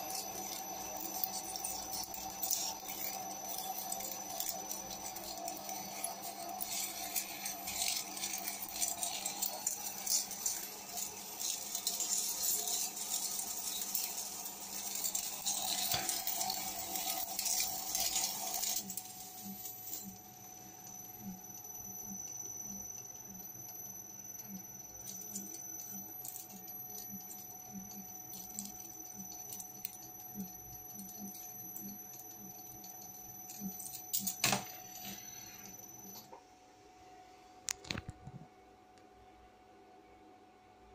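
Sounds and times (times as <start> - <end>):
lathe whine: 0.0 - 36.4.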